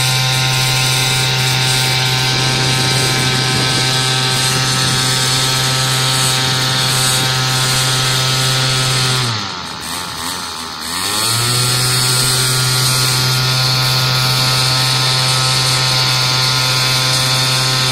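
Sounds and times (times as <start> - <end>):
small two-stroke engine buzzing: 0.0 - 17.9.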